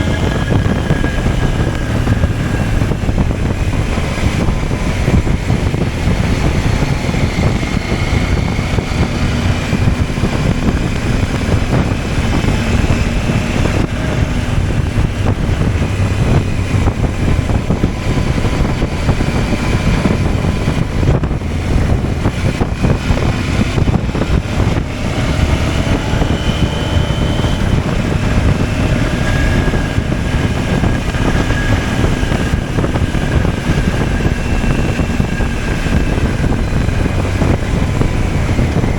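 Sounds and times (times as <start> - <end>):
motorcycle engine running: 0.0 - 38.9
wind and road rush: 0.0 - 38.9.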